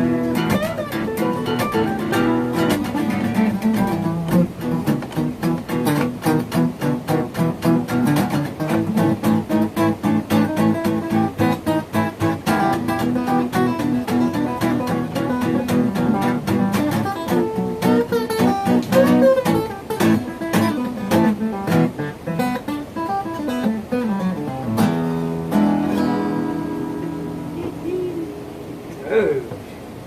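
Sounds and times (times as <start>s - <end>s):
acoustic guitars playing blues: 0.0s - 30.0s.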